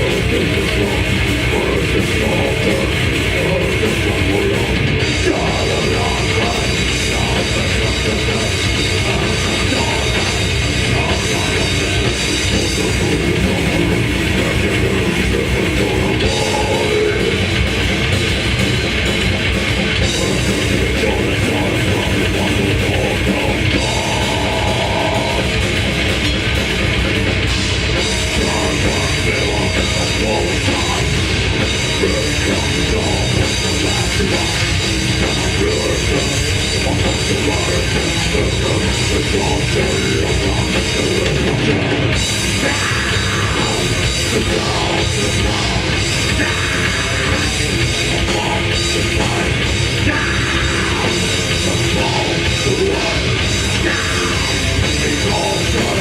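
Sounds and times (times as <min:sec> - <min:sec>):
death metal band playing live: 0:00.0 - 0:56.0.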